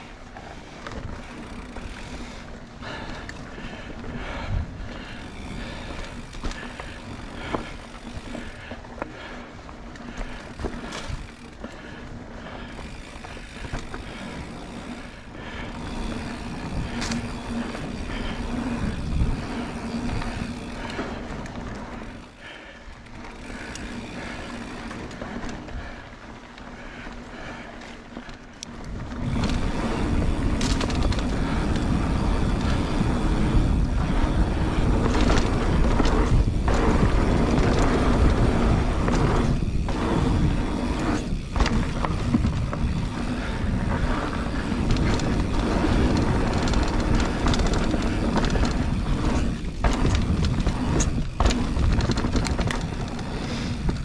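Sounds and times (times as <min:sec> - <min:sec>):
tyres and air rushing rumble: 0:00.0 - 0:26.1, 0:26.8 - 0:54.0
bike knocking and rattling: 0:00.0 - 0:54.0.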